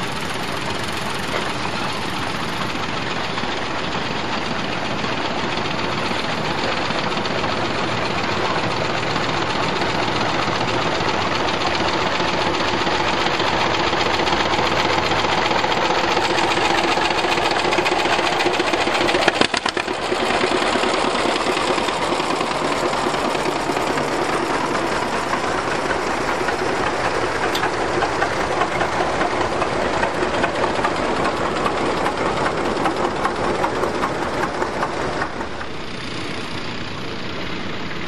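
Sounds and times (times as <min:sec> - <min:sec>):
tractor engine popping exhaust: 0:00.0 - 0:36.9.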